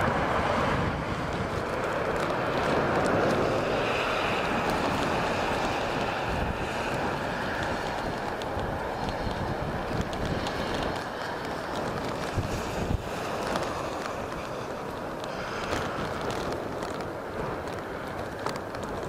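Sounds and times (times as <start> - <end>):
jet engine rush: 0.0 - 19.0
wind buffeting microphone: 0.0 - 19.0.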